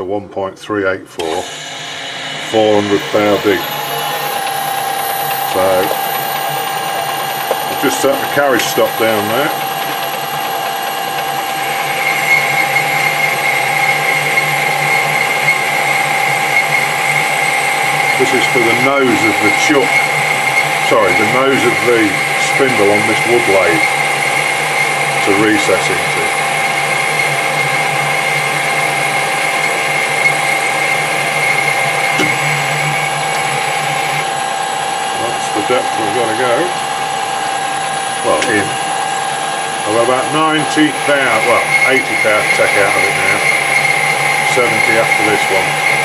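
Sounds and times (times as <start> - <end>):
boring tool cutting steel: 1.2 - 46.0
metal lathe whining: 1.2 - 46.0.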